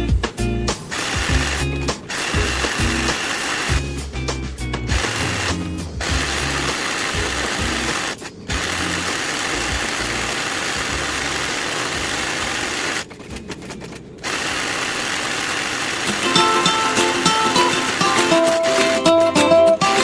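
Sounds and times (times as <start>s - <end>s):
sewing machine stitching: 0.9s - 3.8s, 4.9s - 19.1s.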